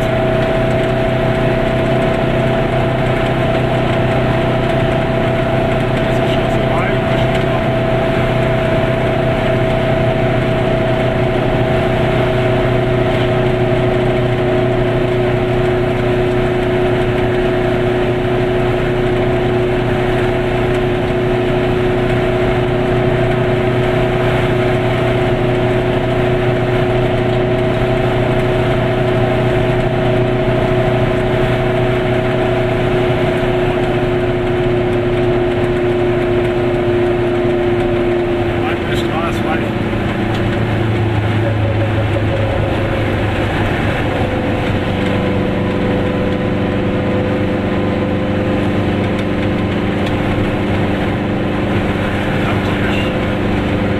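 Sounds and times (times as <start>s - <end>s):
two-stroke car engine running: 0.0s - 53.9s.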